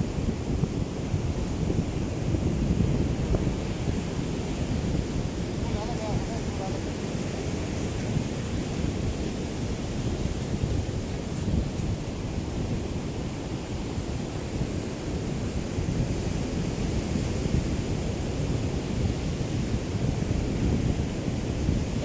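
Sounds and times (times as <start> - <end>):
sea waves lapping on beach: 0.0 - 22.0
wind buffeting microphone: 0.0 - 22.0.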